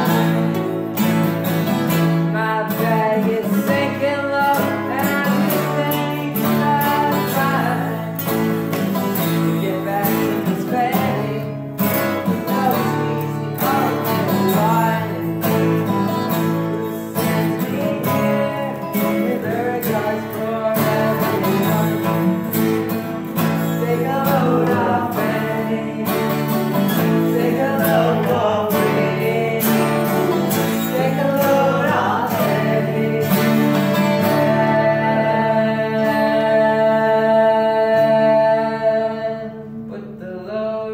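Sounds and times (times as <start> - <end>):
acoustic guitars strumming chords: 0.0 - 40.9.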